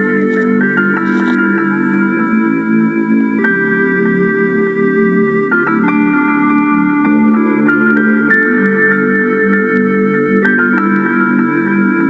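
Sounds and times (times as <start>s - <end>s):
keyboard chords with plucked notes: 0.0s - 12.0s.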